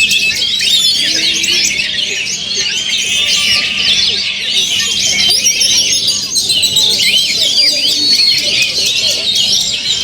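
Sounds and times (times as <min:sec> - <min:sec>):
chorus of birds singing: 0:00.0 - 0:10.0.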